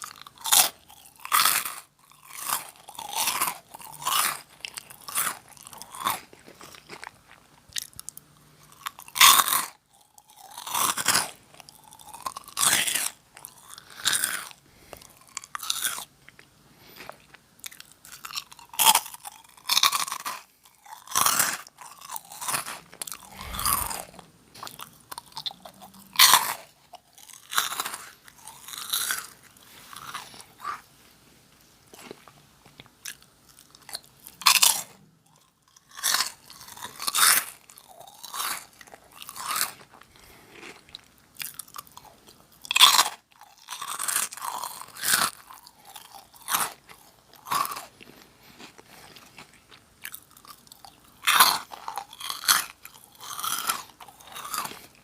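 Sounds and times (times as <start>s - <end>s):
crunching crisp snack: 0.0s - 30.9s, 31.8s - 55.0s
soft chewing: 0.0s - 55.0s.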